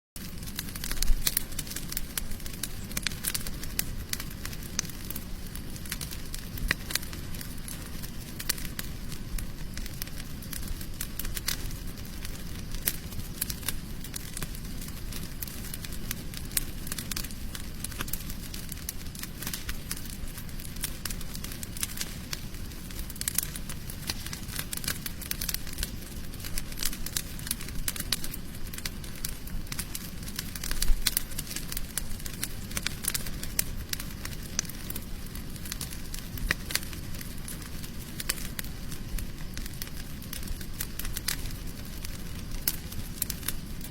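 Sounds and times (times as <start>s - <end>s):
campfire crackling and popping: 0.2s - 43.9s.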